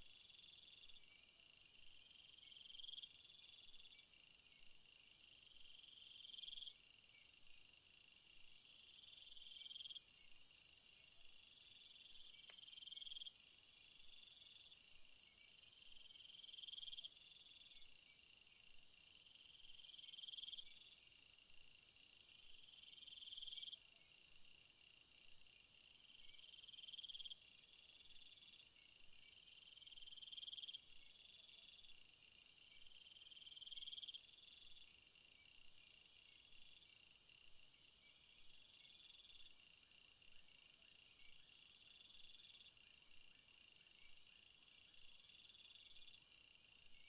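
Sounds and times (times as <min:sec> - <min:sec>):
rapid high-pitched insect chirping: 0:00.1 - 0:47.0.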